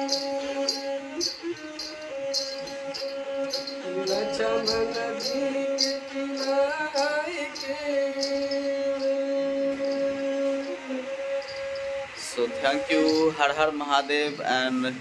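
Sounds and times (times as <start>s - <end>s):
man singing: 0.0s - 15.0s
sarangi bowed drone: 0.0s - 15.0s.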